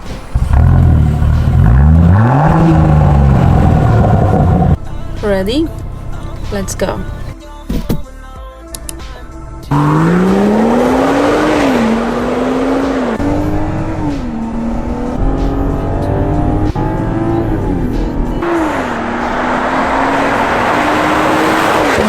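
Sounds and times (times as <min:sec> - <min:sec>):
car engine accelerating hard: 0:00.0 - 0:07.3, 0:09.7 - 0:22.0.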